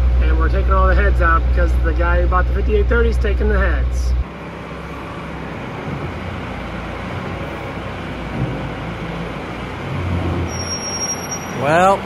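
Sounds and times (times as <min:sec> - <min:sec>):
engine running steadily: 0:00.0 - 0:10.5.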